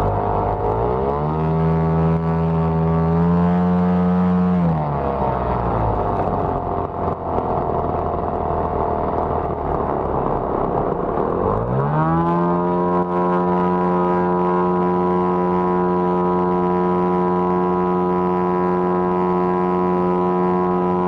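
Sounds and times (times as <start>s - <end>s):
ultralight aircraft engines: 0.0s - 21.0s.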